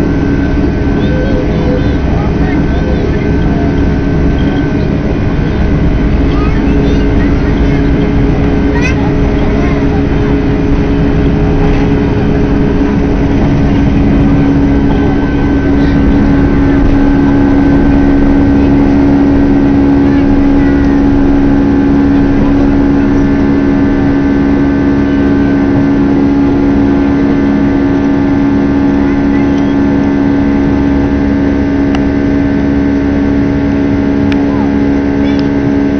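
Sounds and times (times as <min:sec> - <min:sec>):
jet engines droning in cabin: 0:00.0 - 0:35.9.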